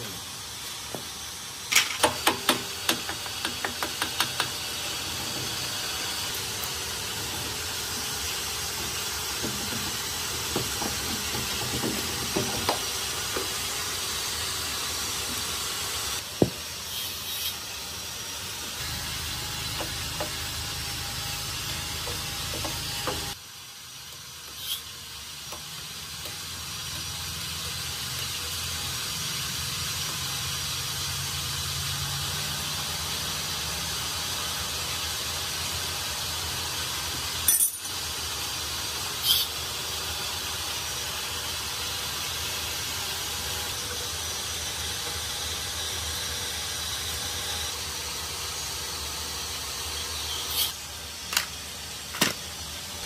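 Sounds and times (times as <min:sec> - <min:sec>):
steady hiss: 0:00.0 - 0:53.0.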